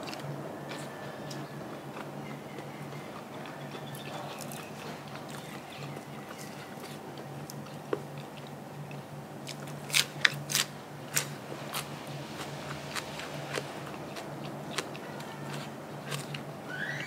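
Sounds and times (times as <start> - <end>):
crunchy food chewing: 0.0 - 17.0
steady low hum: 0.0 - 17.0.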